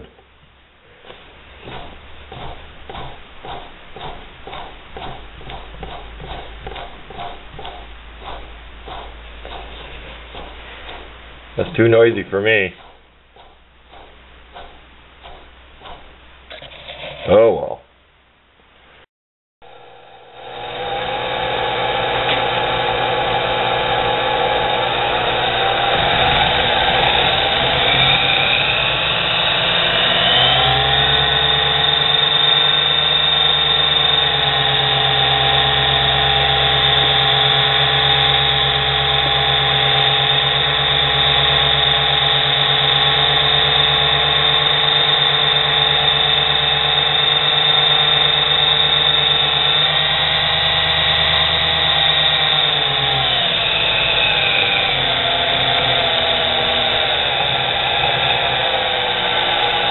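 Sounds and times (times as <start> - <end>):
lathe motor whining: 0.8 - 16.1, 19.7 - 59.9.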